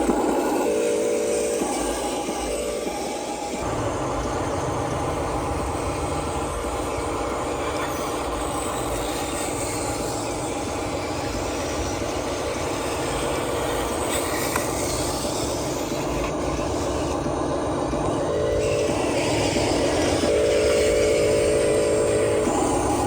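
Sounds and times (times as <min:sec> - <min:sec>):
model truck motors whining: 0:00.0 - 0:23.0.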